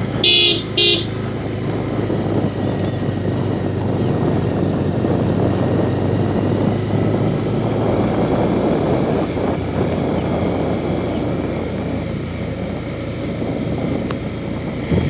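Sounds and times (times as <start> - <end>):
motorcycle engine and road noise: 0.0 - 15.0
wind rumbling on microphone: 0.0 - 15.0.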